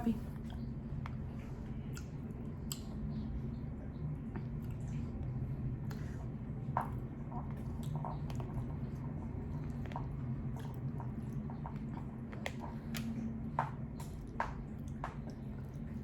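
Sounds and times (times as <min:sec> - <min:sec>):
steady low hum: 0:00.0 - 0:16.0
wet chewing mouth sounds: 0:00.1 - 0:16.0.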